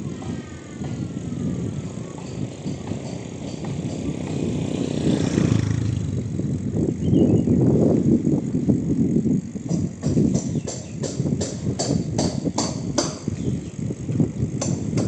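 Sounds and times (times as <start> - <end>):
bicycle road noise: 0.0 - 15.0
wind rumbling on microphone: 0.0 - 15.0.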